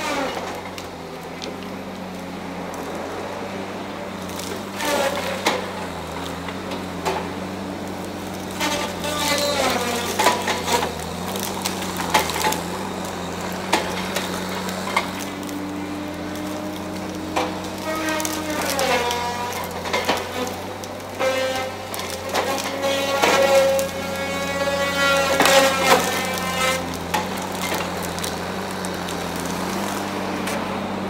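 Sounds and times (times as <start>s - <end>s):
distant heavy machine running: 0.0s - 31.0s
tree trunks cracking and snapping: 0.0s - 31.0s.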